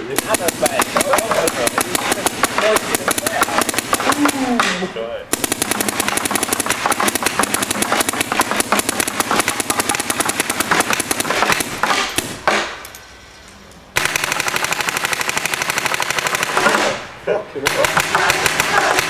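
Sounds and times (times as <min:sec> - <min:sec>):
paintball marker rapid firing: 0:00.1 - 0:12.8, 0:14.0 - 0:17.0, 0:17.7 - 0:19.0.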